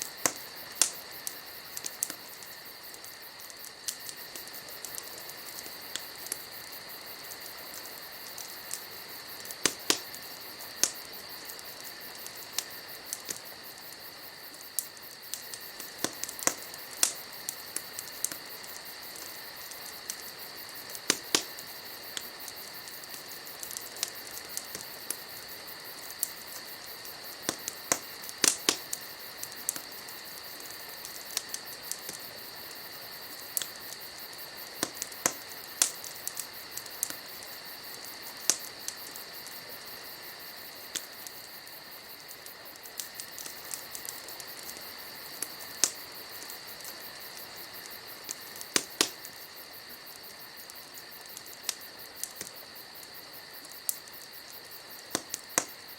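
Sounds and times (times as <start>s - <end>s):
insects trilling: 0.0s - 55.9s
wood fire crackling and popping: 0.0s - 55.9s.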